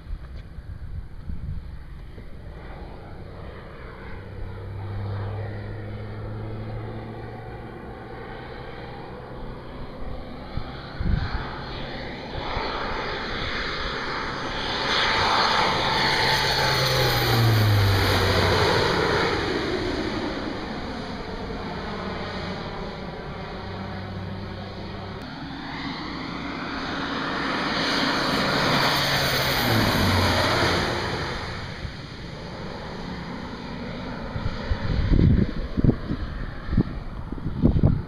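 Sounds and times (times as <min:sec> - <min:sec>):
propeller plane flying past: 0:00.0 - 0:38.0.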